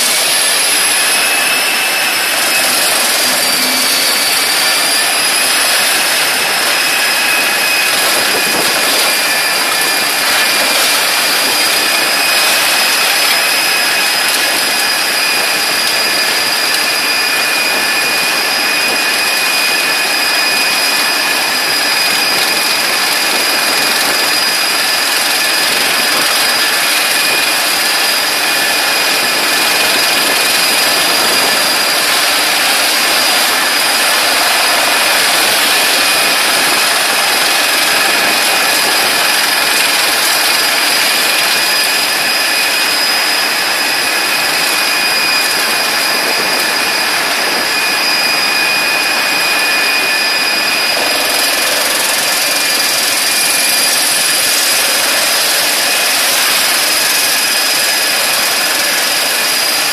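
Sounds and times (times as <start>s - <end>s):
wood chipper whining: 0.0s - 59.9s.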